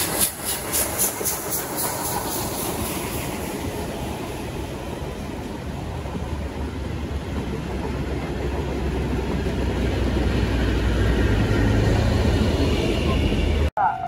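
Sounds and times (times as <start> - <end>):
passing train rumble: 0.0 - 14.0.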